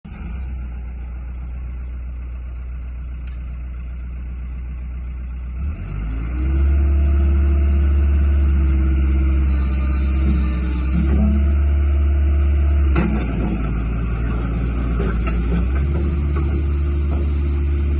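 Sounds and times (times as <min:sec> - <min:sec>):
excavator diesel engine revving: 0:00.0 - 0:17.9.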